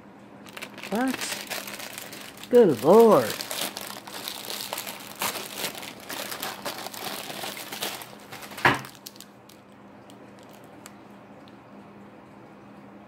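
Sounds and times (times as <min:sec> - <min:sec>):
plastic wrapper crinkling: 0:00.4 - 0:11.0.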